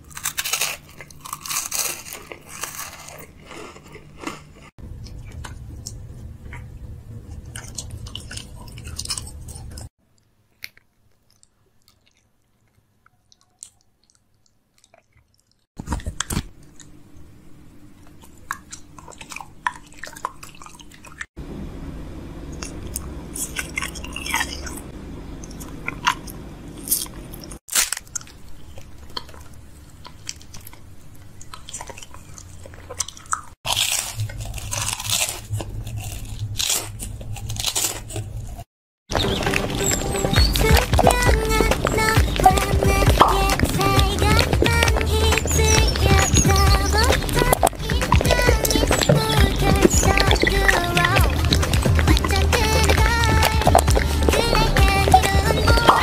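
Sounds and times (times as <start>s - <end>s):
crunchy chewing of food: 0.0s - 21.4s, 22.5s - 56.0s.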